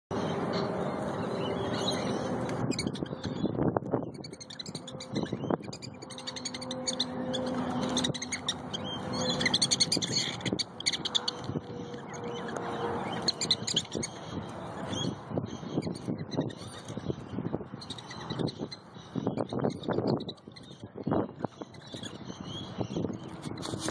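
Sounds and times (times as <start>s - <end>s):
prairie dogs chirping and squeaking: 0.1s - 23.9s.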